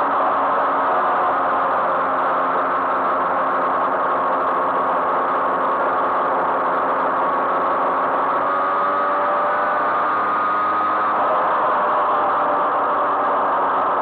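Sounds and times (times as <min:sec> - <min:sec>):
moped engine running: 0:00.0 - 0:14.0.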